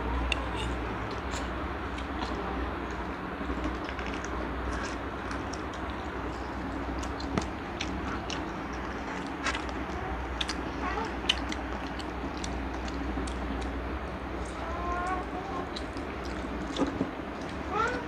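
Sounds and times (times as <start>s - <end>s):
children chewing food: 0.0s - 18.0s
steady low hum: 0.0s - 18.0s.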